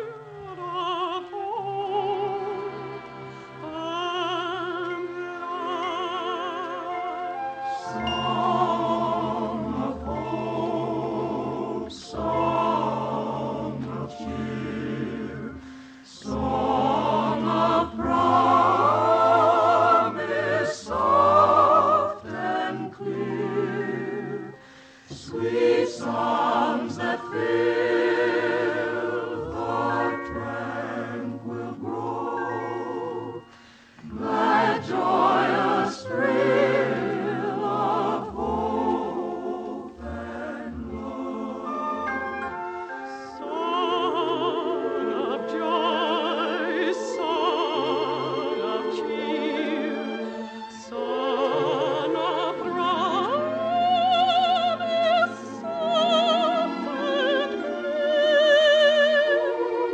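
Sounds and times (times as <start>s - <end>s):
operetta singing with orchestra: 0.0s - 59.9s.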